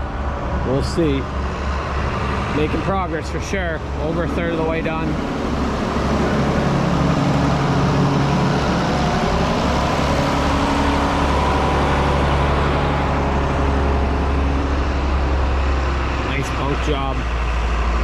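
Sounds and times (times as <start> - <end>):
heavy engine humming: 0.0 - 18.0.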